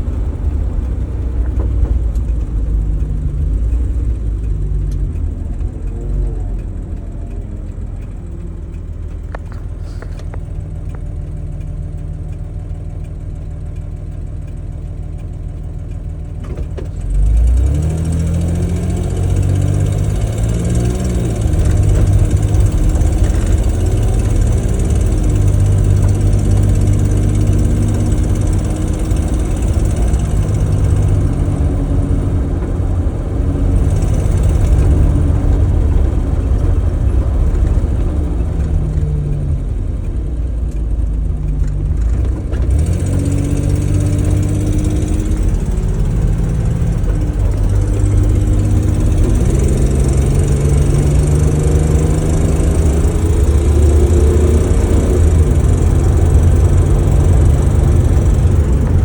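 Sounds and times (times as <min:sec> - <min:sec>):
car engine running with ticking: 0:00.0 - 0:59.0.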